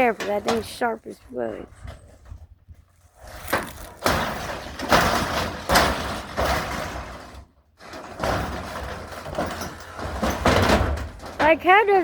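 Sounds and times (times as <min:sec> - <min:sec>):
barn material scraping and banging: 0:00.0 - 0:12.0.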